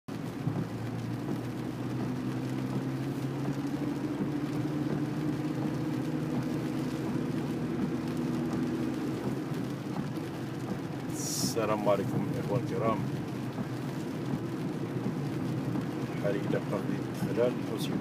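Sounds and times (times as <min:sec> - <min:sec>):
car engine drone: 0:00.1 - 0:18.0
tyre noise on wet road: 0:00.1 - 0:18.0.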